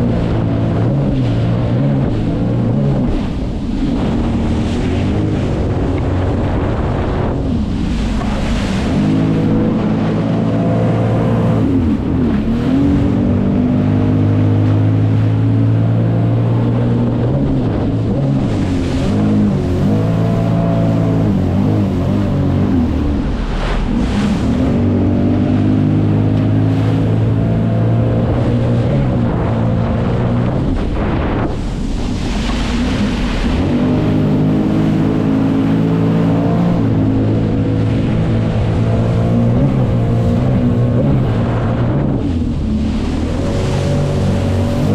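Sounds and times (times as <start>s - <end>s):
jet ski engine running: 0.0s - 44.9s
water rushing: 0.0s - 44.9s
wind on microphone: 0.0s - 44.9s.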